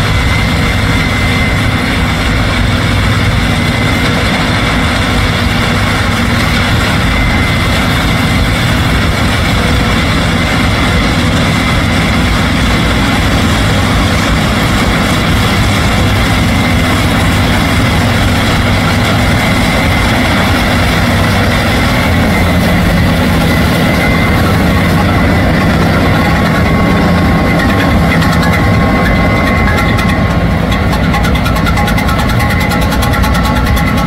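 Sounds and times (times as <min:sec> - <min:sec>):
diesel engine running under load: 0:00.0 - 0:34.0
lower whine: 0:00.0 - 0:34.0
thin high whine: 0:00.0 - 0:34.0.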